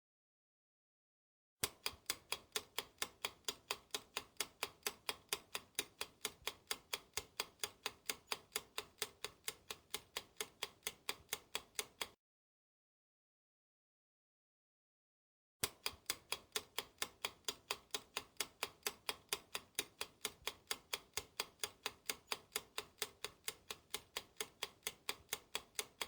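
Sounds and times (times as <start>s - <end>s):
clock ticking fast: 1.6s - 12.2s, 15.6s - 26.0s.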